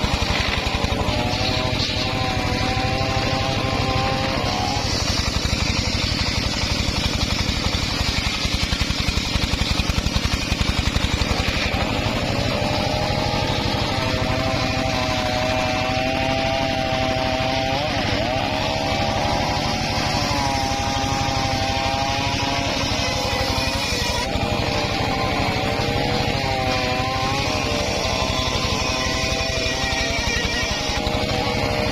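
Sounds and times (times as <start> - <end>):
circular saw blade whine: 0.0 - 31.9.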